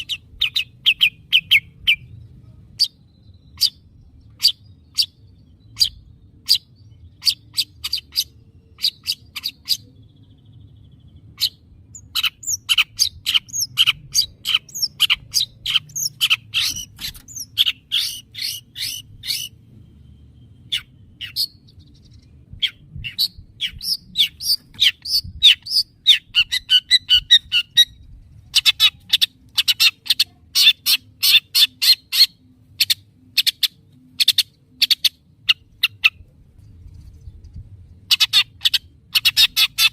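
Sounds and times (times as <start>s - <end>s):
faint low hum: 0.0s - 31.2s, 32.1s - 38.2s.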